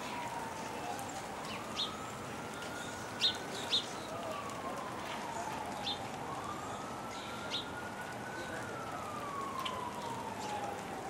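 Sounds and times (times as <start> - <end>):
distant wailing siren: 0.0 - 11.0
steady rain hiss: 0.0 - 11.0.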